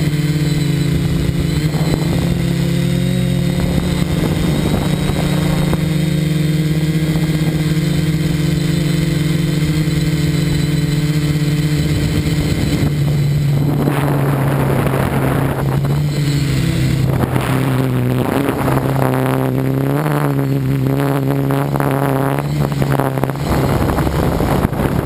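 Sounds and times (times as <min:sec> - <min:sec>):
drone propellers buzzing: 0:00.0 - 0:25.0
rushing noise: 0:00.0 - 0:25.0.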